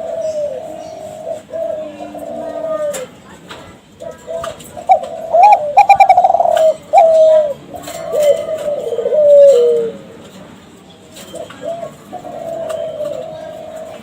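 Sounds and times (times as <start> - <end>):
dove cooing: 0.0 - 3.3, 4.0 - 10.2, 11.2 - 14.0.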